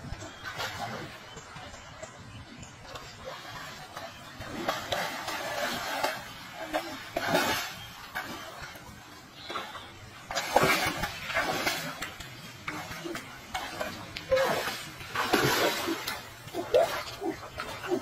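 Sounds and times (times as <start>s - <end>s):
water splashing from wading: 0.0s - 18.0s.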